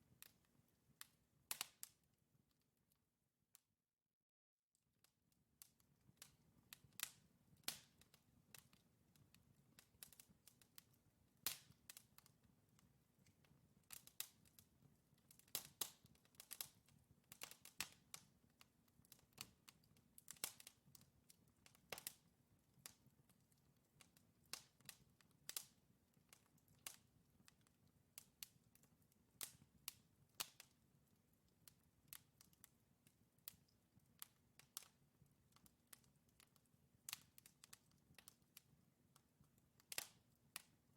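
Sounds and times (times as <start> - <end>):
wood fire crackling: 0.0 - 2.1, 5.6 - 40.9.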